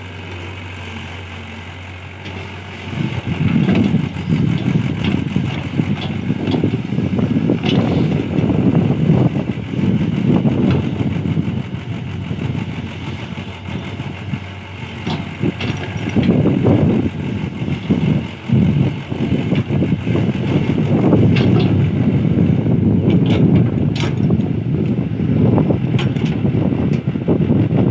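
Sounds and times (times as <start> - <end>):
excavator diesel engine under load: 0.0 - 27.9.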